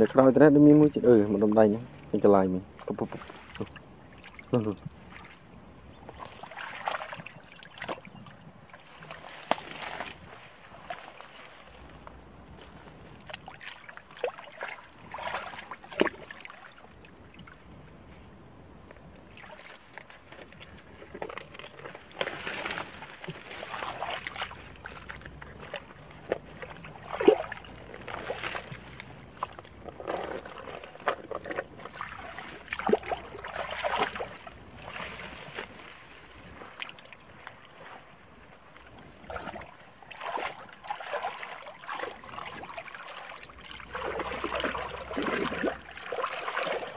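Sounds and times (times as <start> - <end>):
hands sloshing in wet mud: 2.8 - 17.8, 19.2 - 46.9.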